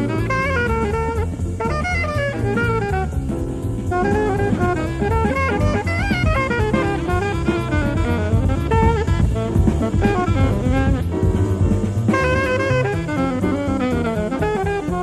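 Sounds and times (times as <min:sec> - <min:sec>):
alto saxophone runs: 0:00.0 - 0:15.0
bass: 0:00.0 - 0:15.0
drum kit: 0:00.0 - 0:15.0
piano: 0:00.0 - 0:15.0.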